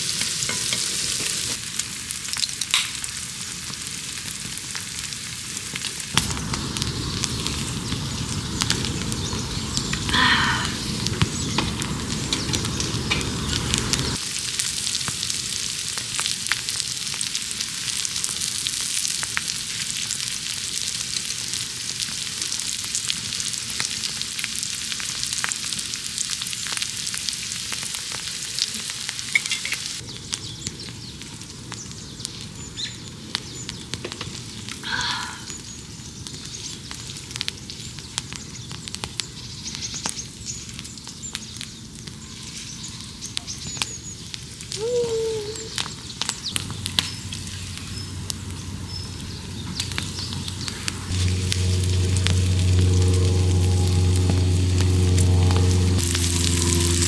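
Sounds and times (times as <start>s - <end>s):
food sizzling on griddle: 0.0s - 57.0s.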